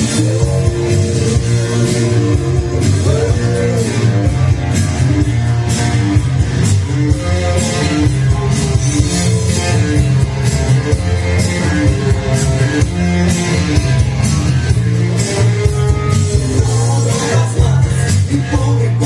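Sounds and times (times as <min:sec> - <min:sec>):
drum kit: 0:00.0 - 0:19.0
electric guitar: 0:00.0 - 0:19.0
heavy bass line: 0:00.0 - 0:19.0.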